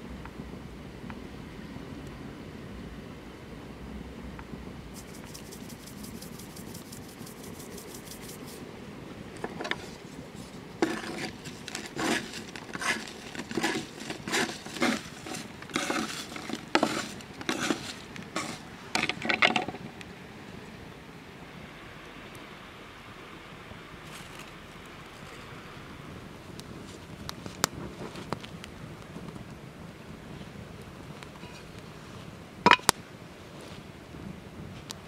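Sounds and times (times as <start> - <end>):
low steady hiss: 0.0 - 35.0.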